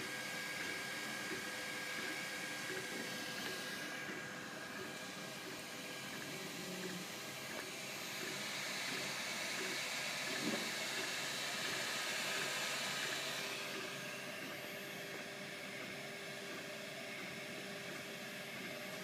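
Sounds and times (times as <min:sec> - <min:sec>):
printer fans whirring: 0:00.0 - 0:19.0.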